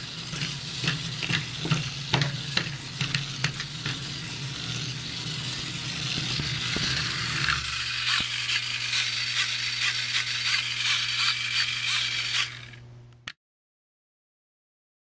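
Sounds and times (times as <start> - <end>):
robot motors rattling: 0.0 - 12.8.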